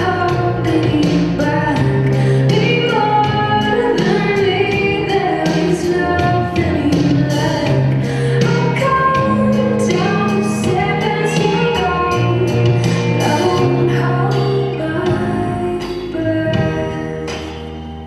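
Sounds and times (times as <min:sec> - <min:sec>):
woman singing over a beat: 0:00.0 - 0:17.5.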